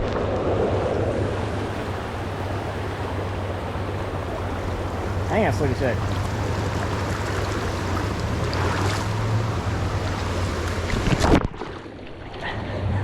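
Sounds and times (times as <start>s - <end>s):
stream water rushing: 0.0s - 12.2s
wind rumbling on microphone: 0.0s - 13.0s.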